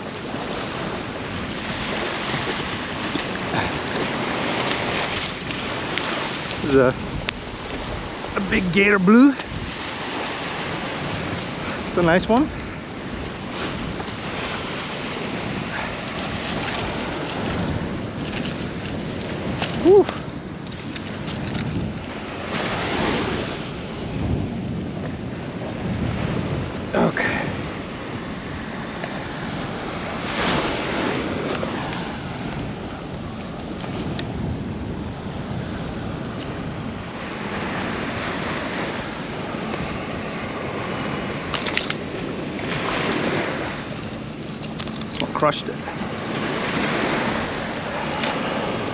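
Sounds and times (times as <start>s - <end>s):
ocean surf washing onto beach: 0.0s - 48.9s
wind rumbling on microphone: 0.0s - 48.9s.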